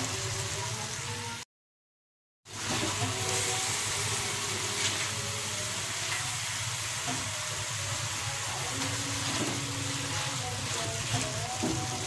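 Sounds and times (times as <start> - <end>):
vegetables sizzling in a wok: 0.0 - 1.4, 2.5 - 12.0.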